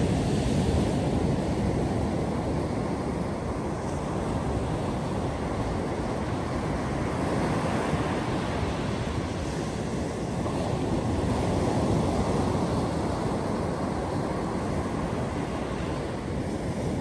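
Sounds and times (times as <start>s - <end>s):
waves washing up a beach: 0.0s - 17.0s.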